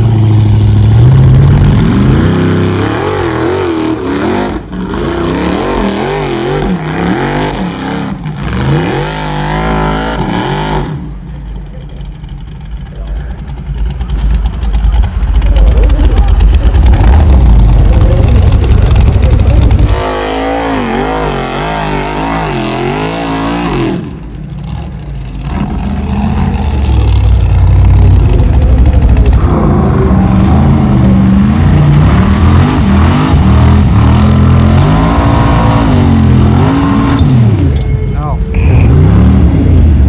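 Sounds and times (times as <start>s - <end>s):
buggy engine revving hard: 0.0s - 40.0s.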